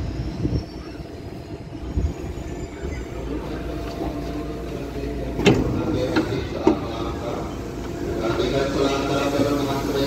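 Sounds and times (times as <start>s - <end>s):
train car low rumble: 0.0s - 10.0s.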